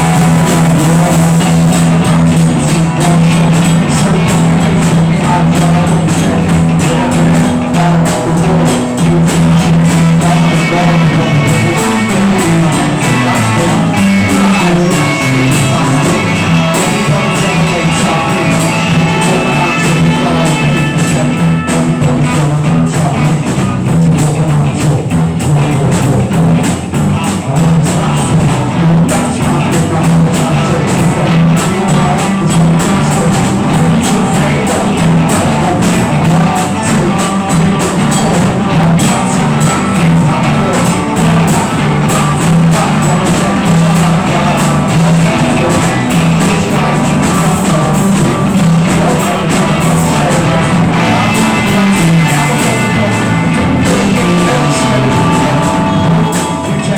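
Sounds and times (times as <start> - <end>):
drum kit with cymbals: 0.0 - 56.9
guitar: 0.0 - 56.9
walking bass line: 0.0 - 56.9.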